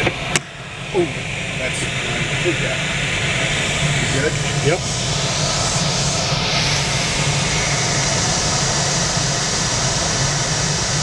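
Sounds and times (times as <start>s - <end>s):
wind rushing in glider cockpit: 0.0s - 11.0s.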